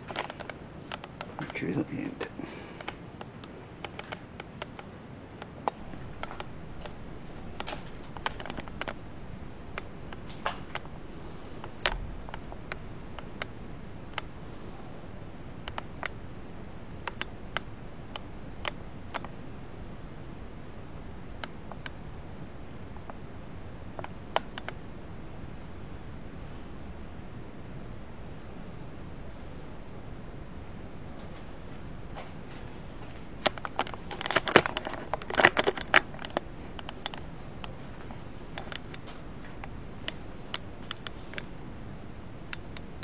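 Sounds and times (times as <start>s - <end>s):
steady hiss: 0.0s - 43.0s.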